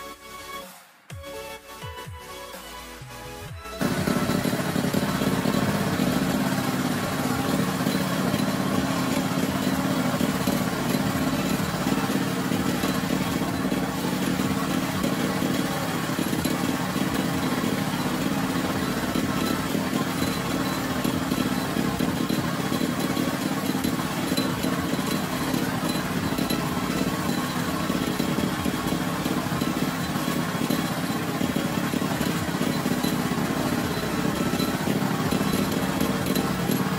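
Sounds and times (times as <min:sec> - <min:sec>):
water pump engine running: 0:03.8 - 0:36.9.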